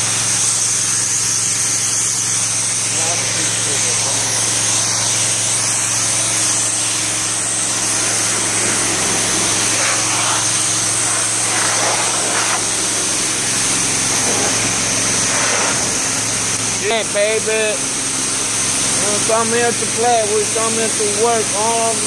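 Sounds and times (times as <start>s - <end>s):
high-pressure water spraying on concrete: 0.0s - 22.0s
engine low hum: 2.5s - 20.7s.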